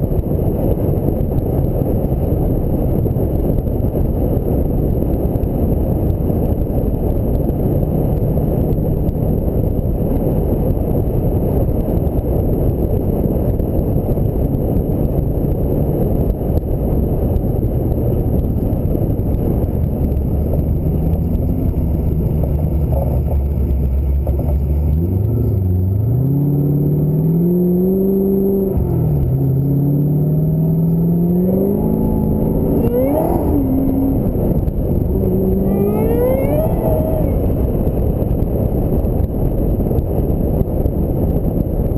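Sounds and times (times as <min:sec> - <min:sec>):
car engine revving: 0:00.0 - 0:41.9
wind and road rumble: 0:00.0 - 0:41.9.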